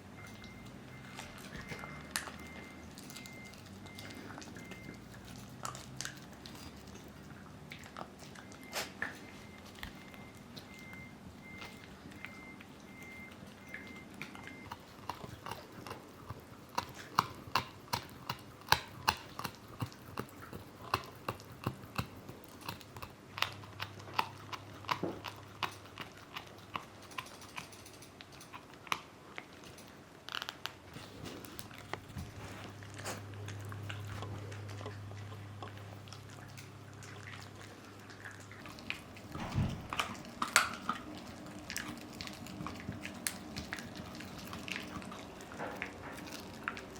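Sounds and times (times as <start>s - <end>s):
dog chewing crunchily: 0.0s - 46.9s.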